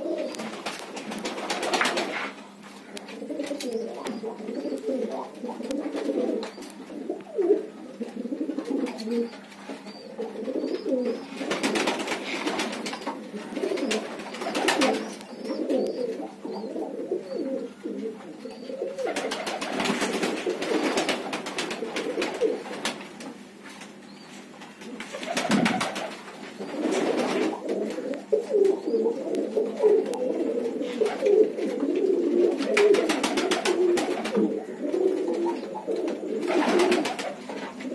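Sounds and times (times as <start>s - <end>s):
pigeons cooing: 0.0s - 37.9s
rustling clicking among flock: 0.1s - 7.4s, 8.0s - 16.4s, 19.0s - 37.9s.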